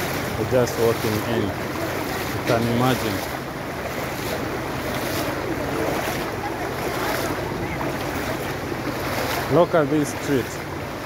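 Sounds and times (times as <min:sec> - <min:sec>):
floodwater rushing over street: 0:00.0 - 0:11.0.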